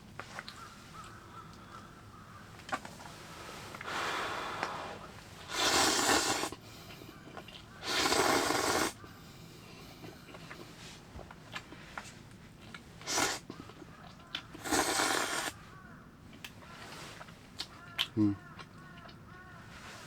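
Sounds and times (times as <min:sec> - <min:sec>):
breathy mouth noises eating: 0:00.2 - 0:20.0.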